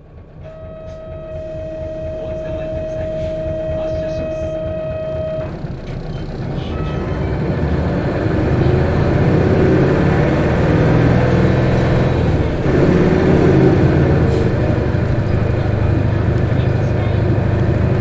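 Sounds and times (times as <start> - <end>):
bus diesel engine accelerating: 0.0 - 18.0.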